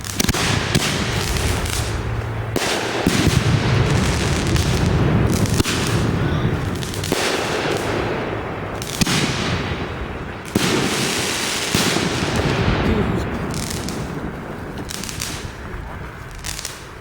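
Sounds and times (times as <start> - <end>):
fireworks barrage: 0.0 - 17.0
fireworks crackle: 0.0 - 17.0
sharp loud firework reports: 0.0 - 17.0.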